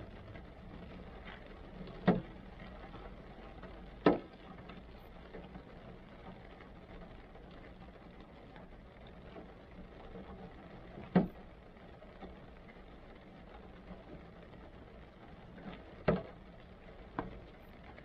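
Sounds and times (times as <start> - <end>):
rain pattering on a car: 0.0 - 18.0.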